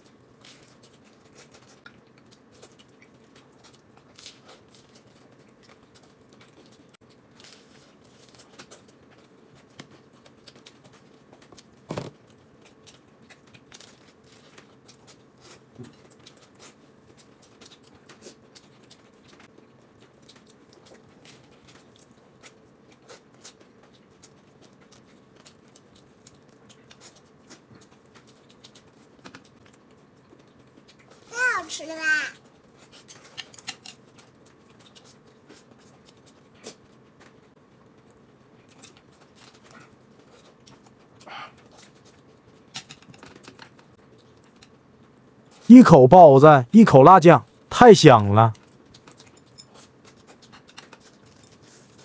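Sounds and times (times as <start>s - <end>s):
chewing crunches and mouth clicks: 0.0s - 31.3s, 32.4s - 45.7s, 48.6s - 52.0s.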